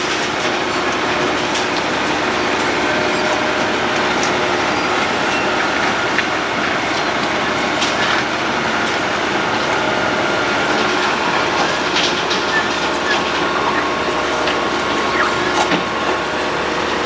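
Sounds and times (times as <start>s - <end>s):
road planer grinding road surface: 0.0s - 17.0s.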